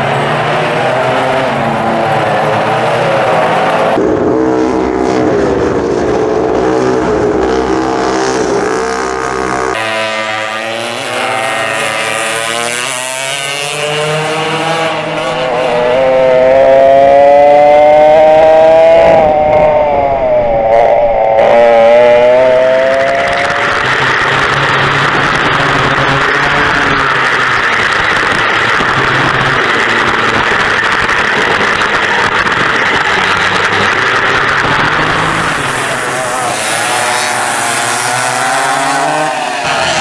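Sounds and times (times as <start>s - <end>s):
racing kart engines: 0.0s - 40.0s.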